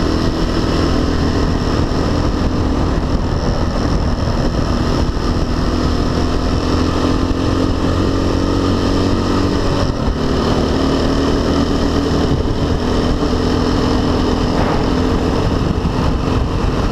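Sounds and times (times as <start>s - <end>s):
dirt bike engine running: 0.0s - 16.9s.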